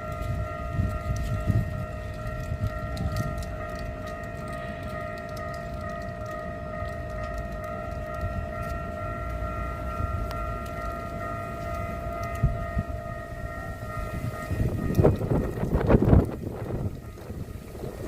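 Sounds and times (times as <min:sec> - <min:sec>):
level crossing alarm tone: 0:00.0 - 0:18.0
rushing rumble: 0:00.0 - 0:18.0.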